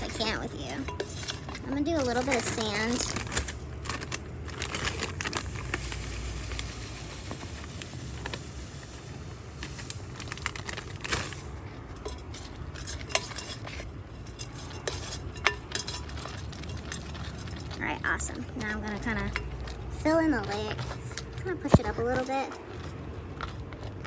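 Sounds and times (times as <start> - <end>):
gritty soil rustling and scraping: 0.0 - 24.0.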